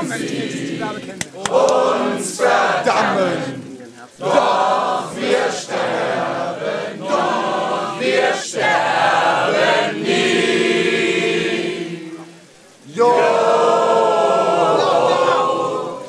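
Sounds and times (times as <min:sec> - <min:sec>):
crowd singing in chorus: 0:00.0 - 0:16.0.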